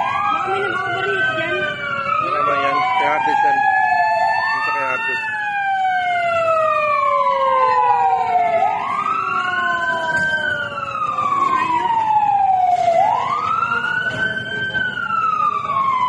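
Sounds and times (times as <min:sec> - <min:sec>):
fire truck siren wailing: 0:00.0 - 0:16.0.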